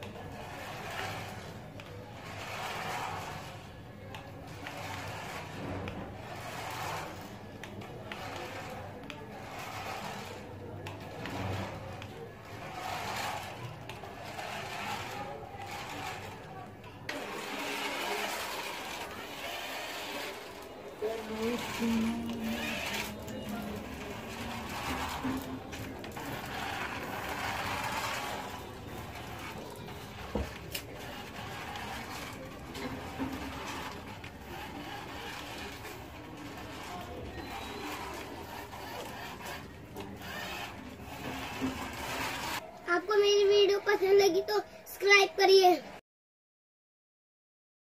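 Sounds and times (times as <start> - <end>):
toy car motor whirring: 0.0 - 42.6.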